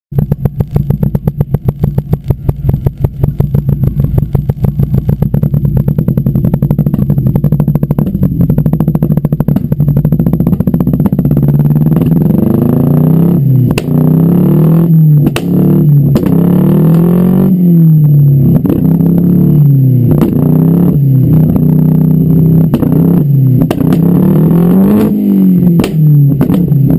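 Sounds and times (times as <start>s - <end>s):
car engine pulsing exhaust: 0.0s - 26.9s.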